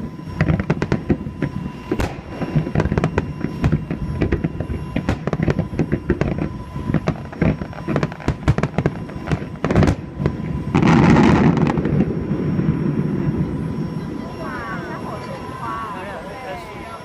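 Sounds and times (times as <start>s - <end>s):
fireworks bangs and crackles: 0.0s - 15.8s.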